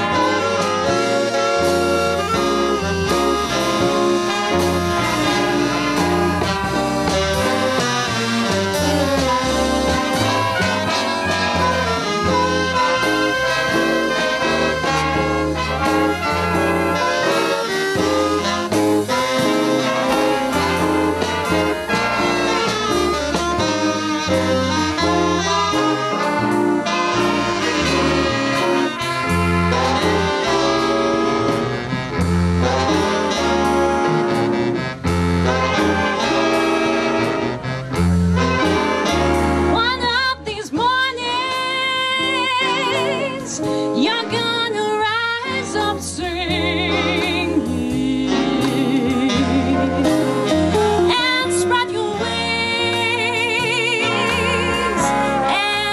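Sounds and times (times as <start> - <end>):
big band swing music: 0.0 - 55.9.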